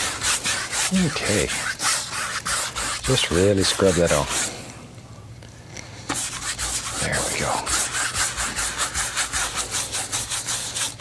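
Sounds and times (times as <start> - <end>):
paint brush rasping on canvas: 0.0 - 4.6, 6.1 - 11.0.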